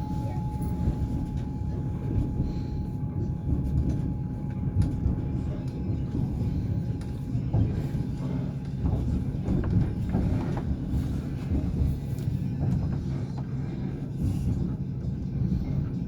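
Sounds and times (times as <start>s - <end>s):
low train rumble: 0.0s - 16.0s
train wheels clattering on rails: 0.0s - 16.0s.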